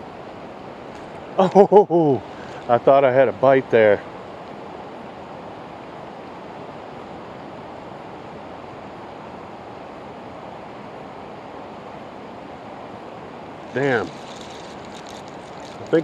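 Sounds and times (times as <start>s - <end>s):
river current rushing: 0.0s - 16.0s.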